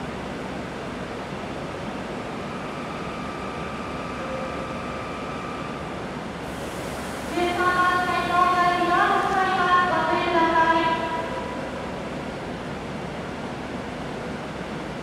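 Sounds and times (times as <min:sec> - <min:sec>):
standing train hum and hiss: 0:00.0 - 0:15.0.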